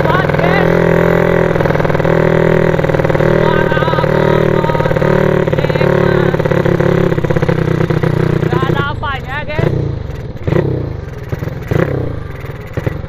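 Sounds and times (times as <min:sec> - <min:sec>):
small engine with open exhaust: 0:00.0 - 0:13.0.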